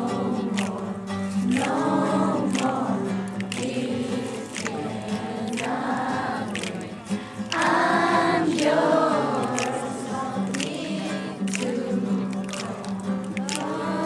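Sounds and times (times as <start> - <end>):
people singing together: 0.0 - 14.0.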